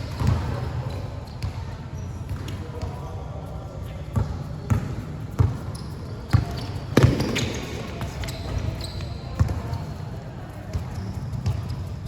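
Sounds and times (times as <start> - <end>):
basketball bouncing on court: 0.0 - 3.0, 4.1 - 9.9, 10.7 - 11.9.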